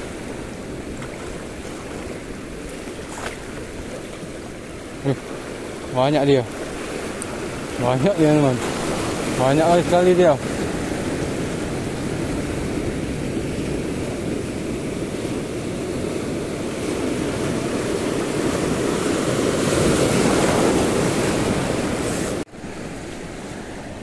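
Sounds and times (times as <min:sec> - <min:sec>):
surf washing on shore: 0:00.0 - 0:24.0
wind on microphone: 0:00.0 - 0:24.0.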